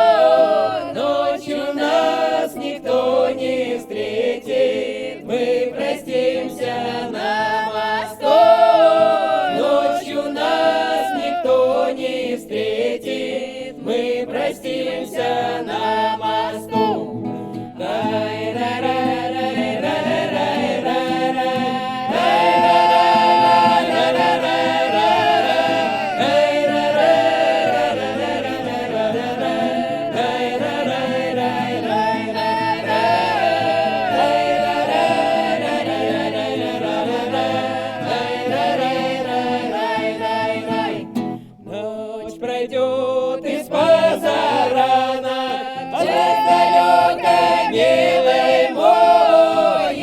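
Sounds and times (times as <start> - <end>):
group of men and women singing: 0.0 - 50.0.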